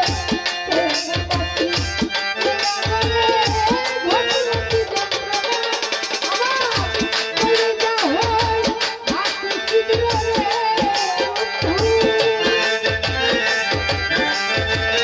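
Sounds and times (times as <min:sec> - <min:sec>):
hand drums: 0:00.0 - 0:15.0
keyboard: 0:00.0 - 0:15.0
woman singing into a microphone: 0:00.0 - 0:15.0.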